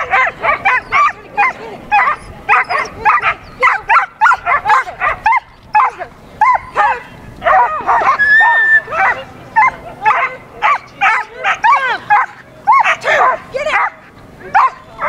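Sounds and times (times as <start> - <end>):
dog barking and yipping: 0.0 - 14.8.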